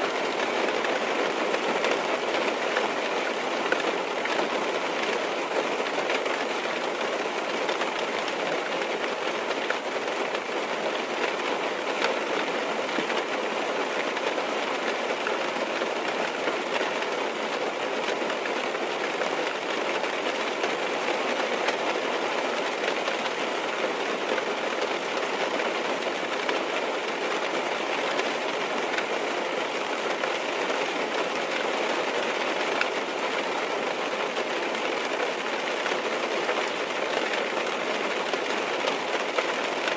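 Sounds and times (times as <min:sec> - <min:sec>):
rain on car roof: 0:00.1 - 0:39.9.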